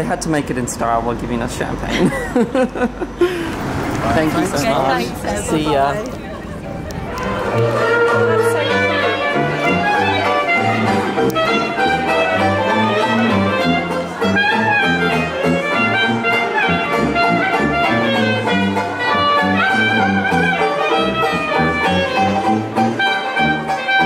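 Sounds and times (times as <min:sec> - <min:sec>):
small jazz band playing: 0:03.9 - 0:24.0.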